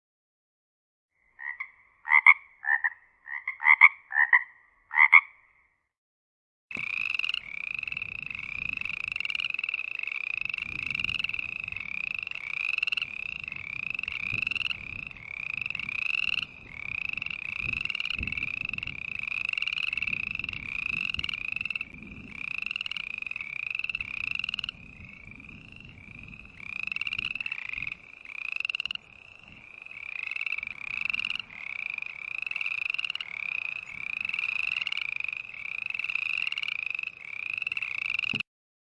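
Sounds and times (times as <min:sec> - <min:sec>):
chorus of frogs croaking: 0:01.2 - 0:05.8, 0:06.7 - 0:38.4
single frog croaking: 0:01.2 - 0:05.8, 0:06.7 - 0:38.4.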